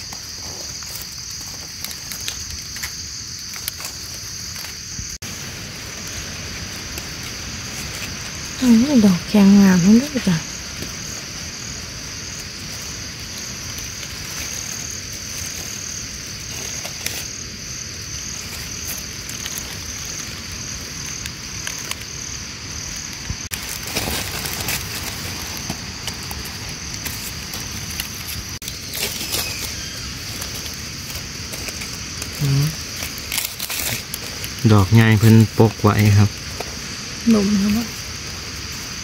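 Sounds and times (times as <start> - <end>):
crackly rustling: 0.0 - 39.0
high-pitched insect drone: 0.0 - 39.0.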